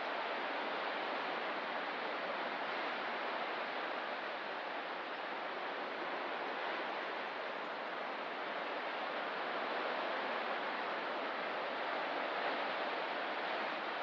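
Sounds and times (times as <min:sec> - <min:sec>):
ocean surf: 0:00.0 - 0:14.0.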